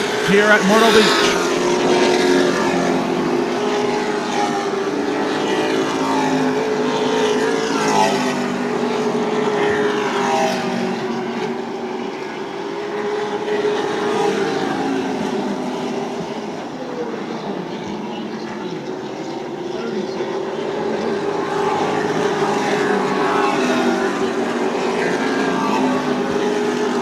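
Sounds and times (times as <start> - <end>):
race truck engines passing: 0.0 - 27.0.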